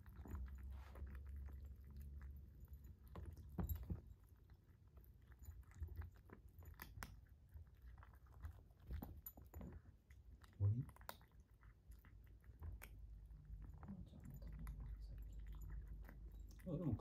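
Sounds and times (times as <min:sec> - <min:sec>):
kittens chewing: 0:00.0 - 0:17.0.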